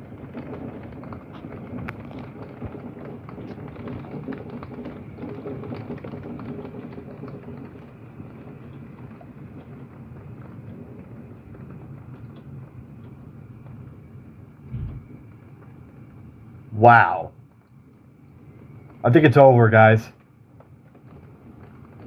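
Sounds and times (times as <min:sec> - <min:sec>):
raindrops ticking on surfaces: 0:00.0 - 0:22.0.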